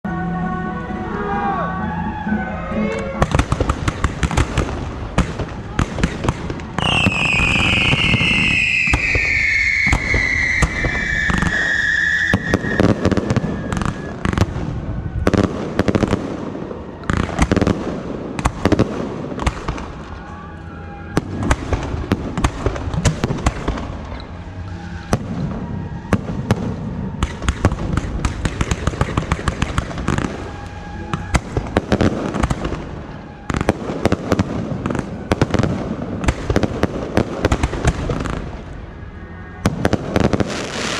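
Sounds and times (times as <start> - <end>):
falling firework whistle: 1.2 - 18.8, 19.4 - 38.4
firecrackers cracking and banging: 3.2 - 20.3, 21.2 - 24.2, 25.1 - 38.8.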